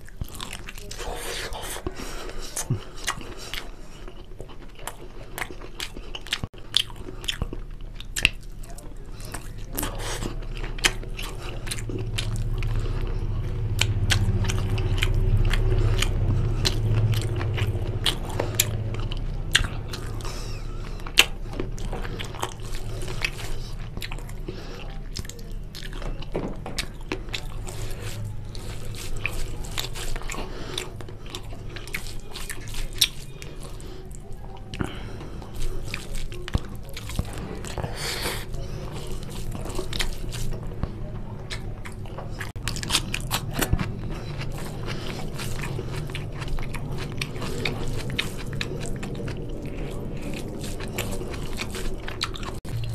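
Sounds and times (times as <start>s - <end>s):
chewing and lip-smacking: 0.0s - 52.9s.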